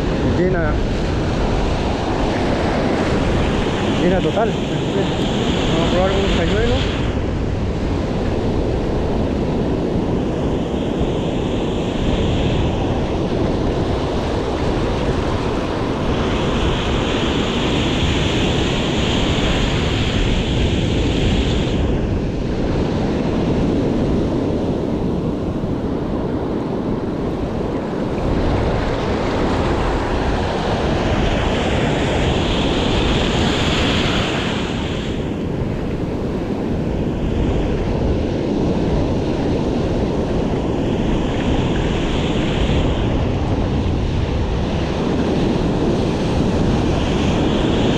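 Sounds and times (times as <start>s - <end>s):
sea waves and surf: 0.0s - 47.9s
wind noise on microphone: 0.0s - 47.9s.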